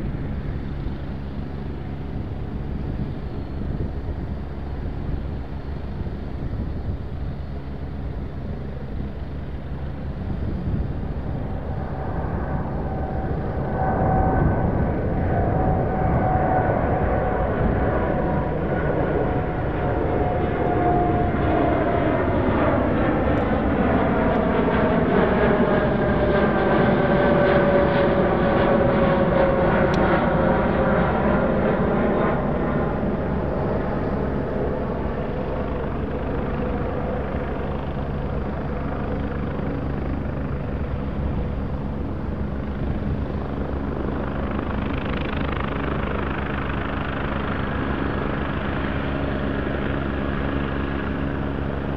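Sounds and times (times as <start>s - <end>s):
jet roar overhead: 0.0s - 51.9s
whining fan tone: 0.0s - 51.9s.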